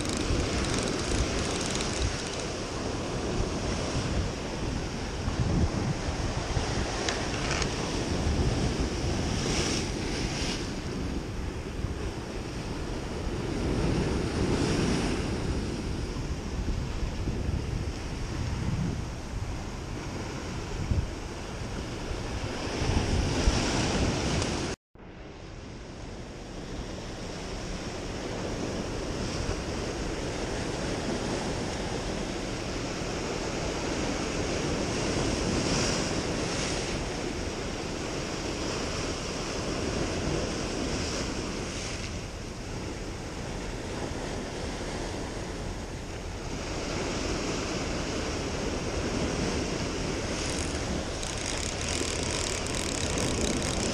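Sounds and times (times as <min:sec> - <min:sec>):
wind buffeting microphone: 0:00.0 - 0:24.8, 0:26.6 - 0:53.9.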